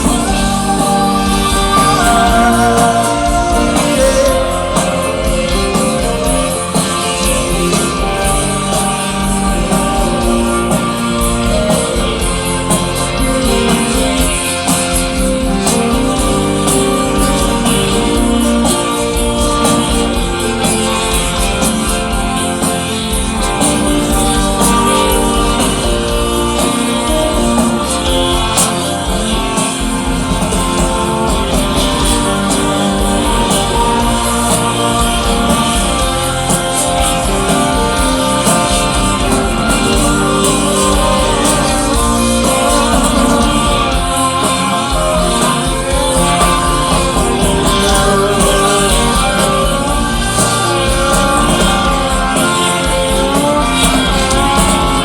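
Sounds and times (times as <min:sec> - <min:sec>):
bass guitar: 0:00.0 - 0:55.0
drums: 0:00.0 - 0:55.0
electric guitars: 0:00.0 - 0:55.0
wordless vocals: 0:00.0 - 0:55.0.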